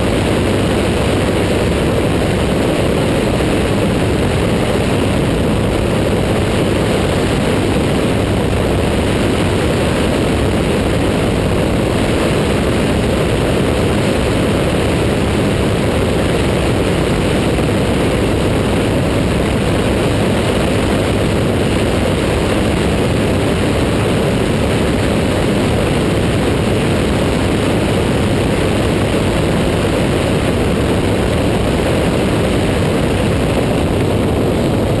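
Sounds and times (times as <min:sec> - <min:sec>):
propeller engine running: 0:00.0 - 0:35.0
rushing air: 0:00.0 - 0:35.0.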